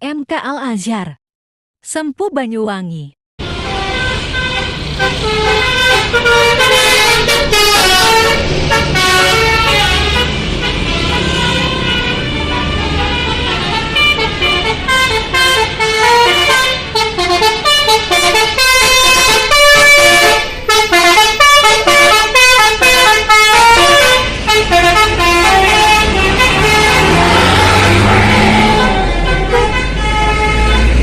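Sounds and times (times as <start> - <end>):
bus engine running: 3.4 - 31.0
multi-tone musical air horn: 3.4 - 31.0.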